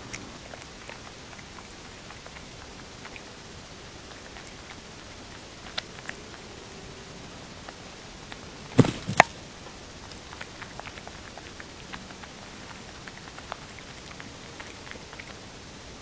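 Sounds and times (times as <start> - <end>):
microphone hiss: 0.0 - 16.0.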